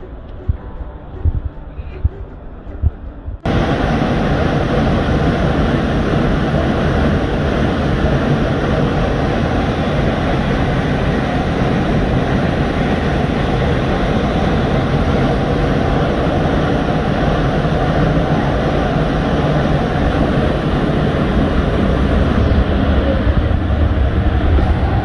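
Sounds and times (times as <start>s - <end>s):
waterfall crashing: 3.5s - 25.0s.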